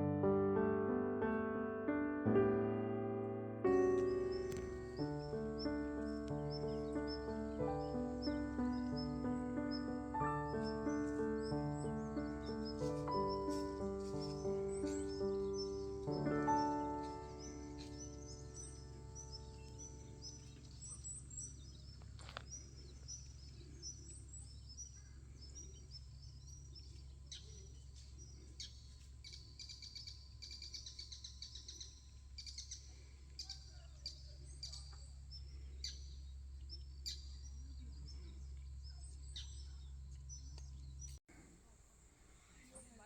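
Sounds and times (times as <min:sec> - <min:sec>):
small birds chirping: 0:02.3 - 0:43.0.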